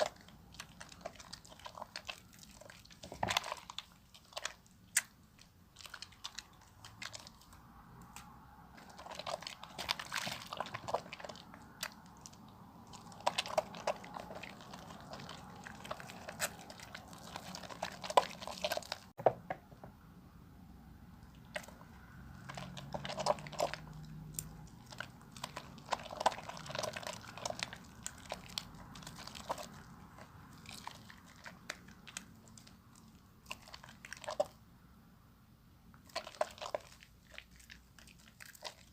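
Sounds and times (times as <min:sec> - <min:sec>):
soap lathering with water: 0:00.0 - 0:19.1, 0:21.2 - 0:34.6, 0:36.0 - 0:38.9.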